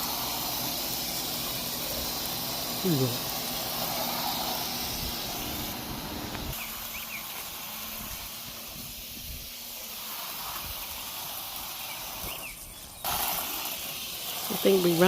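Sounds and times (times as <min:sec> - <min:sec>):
water spraying onto siding: 0:00.0 - 0:15.0.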